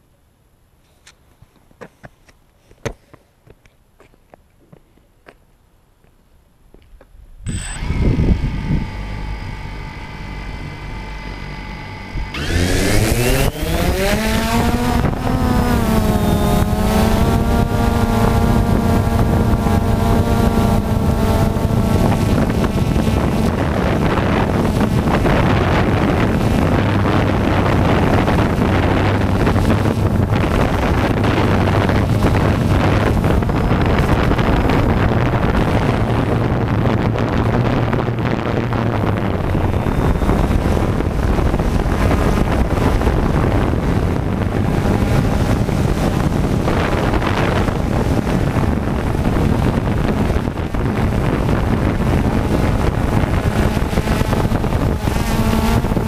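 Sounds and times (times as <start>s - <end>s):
wind on microphone: 6.9s - 56.0s
drone motors whining: 7.5s - 56.0s.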